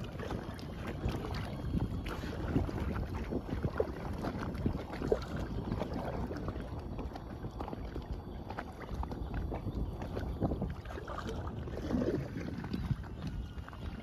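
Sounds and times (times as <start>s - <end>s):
low wind rumble on microphone: 0.0s - 14.0s
paddle strokes: 0.0s - 14.0s
water lapping against kayak hull: 0.0s - 14.0s.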